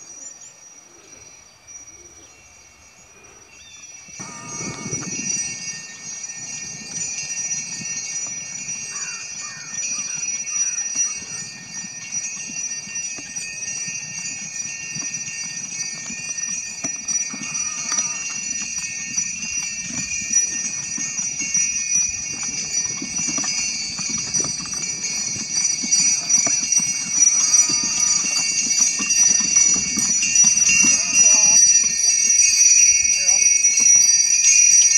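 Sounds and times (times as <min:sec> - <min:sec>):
sleigh bells jingling: 0:00.0 - 0:34.9.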